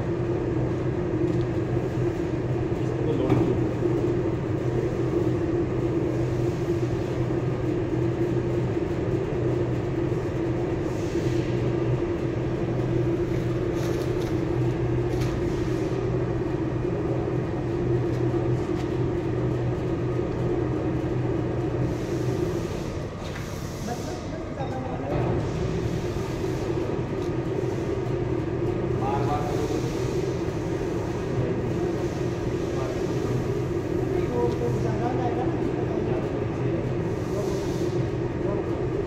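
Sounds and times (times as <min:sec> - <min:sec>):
bending machine humming: 0:00.0 - 0:39.0.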